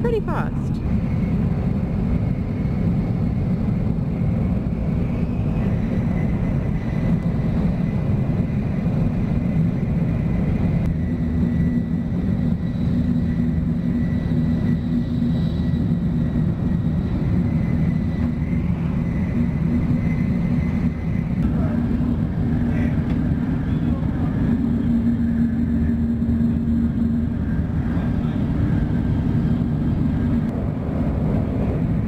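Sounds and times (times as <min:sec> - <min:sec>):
faint high whine: 0:00.0 - 0:30.5
train rolling and wind noise: 0:00.0 - 0:32.0.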